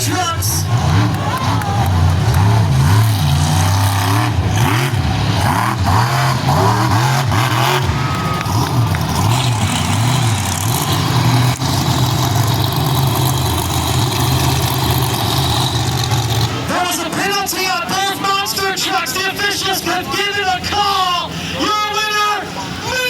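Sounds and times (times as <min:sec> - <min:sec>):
monster truck engines revving: 0:00.0 - 0:23.0.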